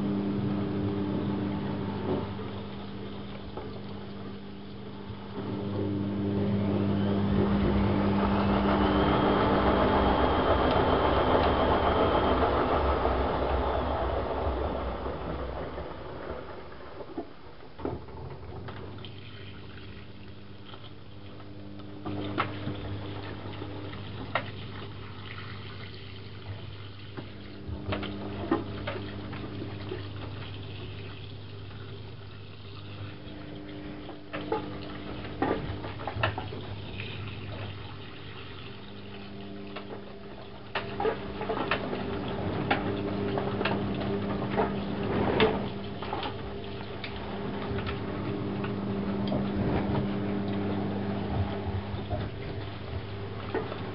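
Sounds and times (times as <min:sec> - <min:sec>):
washing machine hum: 0:00.0 - 0:53.9
water rushing into washing machine: 0:00.0 - 0:53.9.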